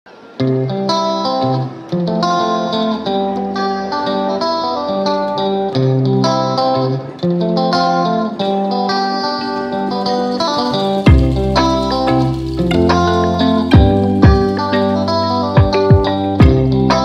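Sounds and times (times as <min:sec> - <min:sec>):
plucked guitar melody: 0:00.1 - 0:17.0.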